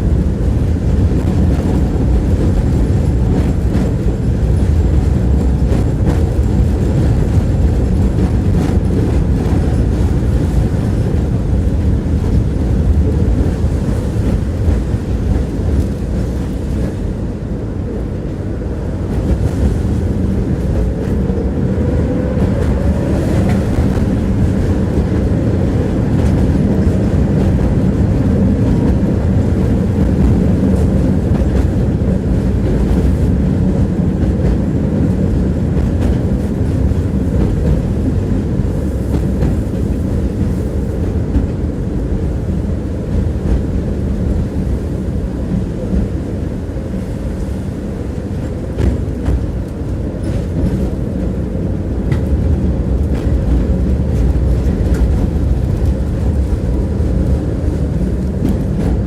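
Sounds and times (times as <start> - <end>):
tram wheels rumbling on rails: 0.0 - 59.0.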